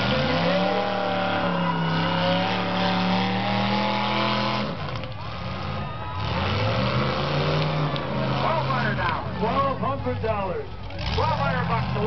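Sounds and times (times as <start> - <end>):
car engines running loudly: 0.0 - 12.0.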